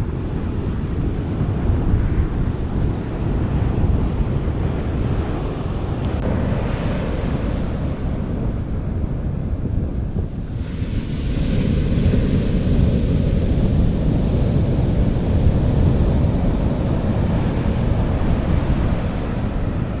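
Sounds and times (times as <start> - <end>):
sea waves breaking: 0.0 - 9.2, 10.4 - 20.0
wind rumble on microphone: 0.0 - 20.0.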